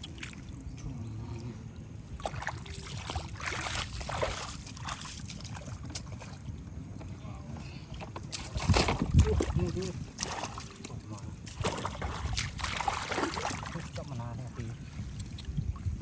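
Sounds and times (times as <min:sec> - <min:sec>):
water splashing and sloshing: 0:00.0 - 0:07.2, 0:07.9 - 0:16.0.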